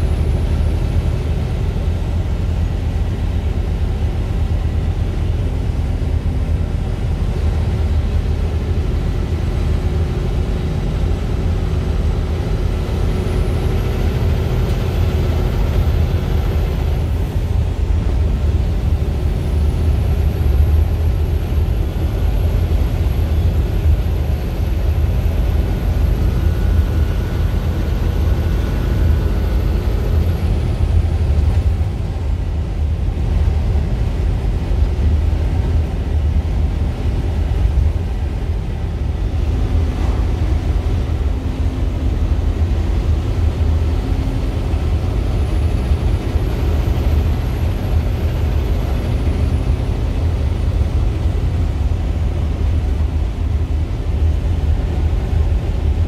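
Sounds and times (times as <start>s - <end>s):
vehicle rumble from inside cab: 0.0s - 56.0s.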